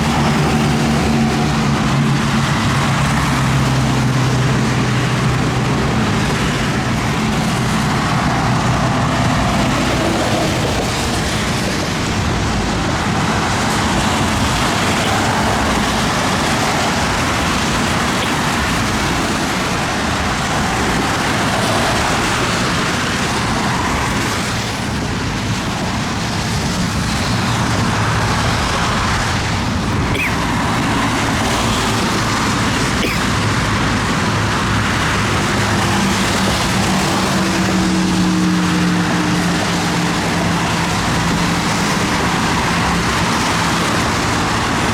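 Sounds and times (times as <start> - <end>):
rain: 0.0 - 44.9
wind: 0.0 - 44.9.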